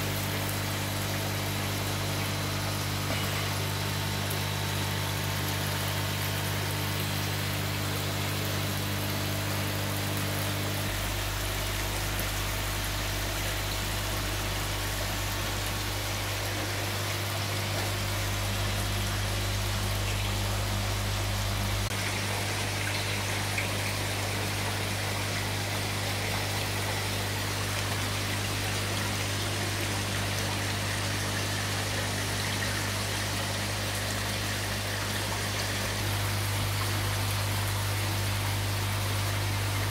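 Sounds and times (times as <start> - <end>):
aquarium air pump hum: 0.0 - 39.9
water bubbling and trickling: 0.0 - 39.9.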